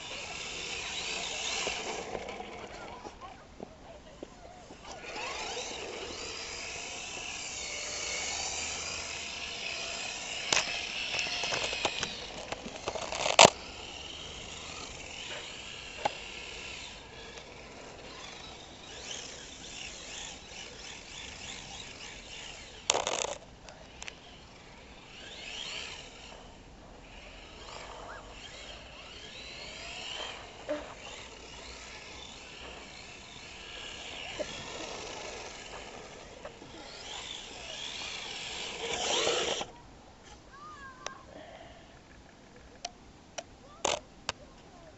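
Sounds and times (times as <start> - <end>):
toy car motor whining: 0.0 - 3.4, 4.2 - 39.8, 43.7 - 44.0.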